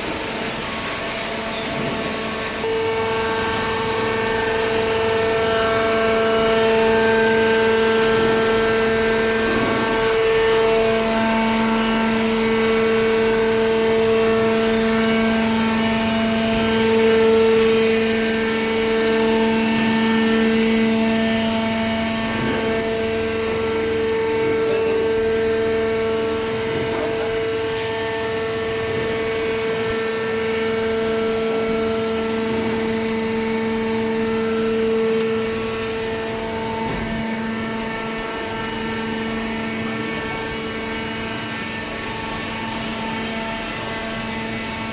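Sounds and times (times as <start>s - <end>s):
hydraulic pump whining hum: 0.0s - 44.9s.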